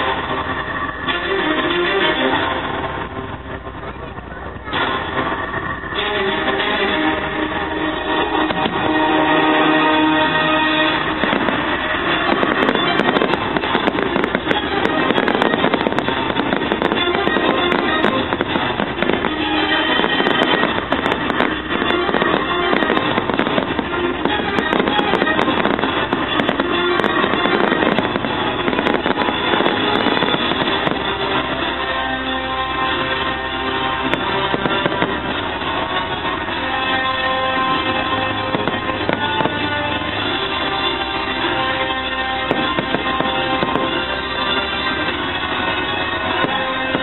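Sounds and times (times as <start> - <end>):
fireworks bursting and crackling: 0.0 - 47.0
music playing: 0.0 - 47.0.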